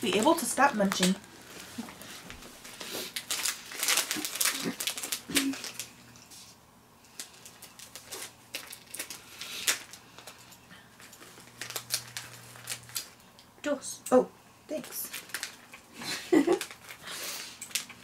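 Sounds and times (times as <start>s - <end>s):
plastic wrapper crinkling: 0.0s - 13.5s, 14.8s - 18.0s.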